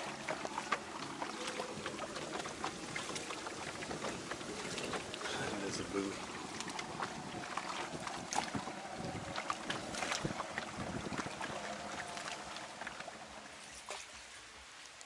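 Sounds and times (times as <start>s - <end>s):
wind on microphone: 0.0s - 13.4s
water splashing and lapping: 0.0s - 15.0s.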